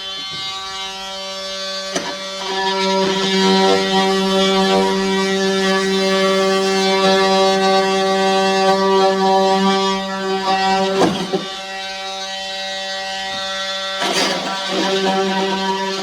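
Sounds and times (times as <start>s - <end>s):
oscillating multi-tool buzzing: 0.0s - 16.0s.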